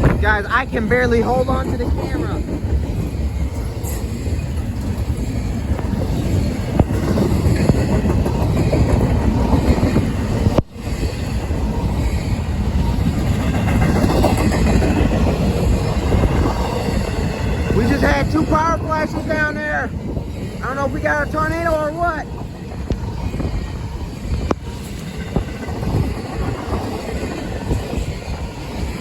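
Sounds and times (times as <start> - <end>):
freight train rumbling on rails: 0.0 - 29.0
wind buffeting microphone: 0.0 - 29.0.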